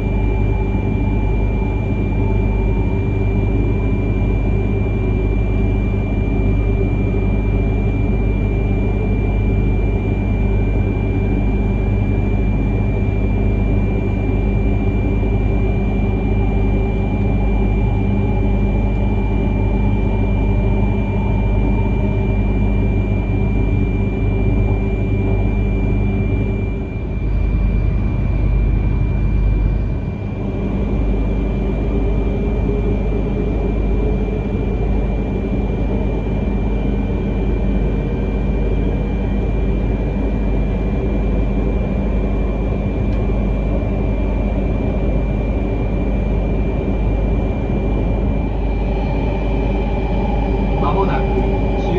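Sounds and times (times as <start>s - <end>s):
constant hum: 0.0s - 51.9s
train interior running rumble: 0.0s - 51.9s.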